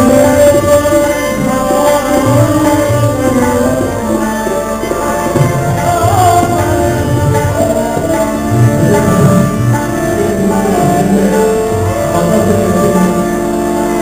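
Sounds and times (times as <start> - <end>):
harmonium: 0.0 - 14.0
man singing gliding notes: 0.0 - 14.0
tabla strokes: 0.0 - 14.0
violin: 0.0 - 14.0.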